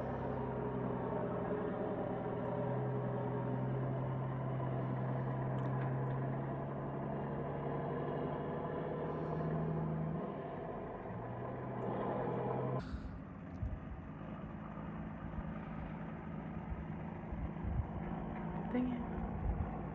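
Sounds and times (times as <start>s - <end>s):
engine humming: 0.0s - 19.9s.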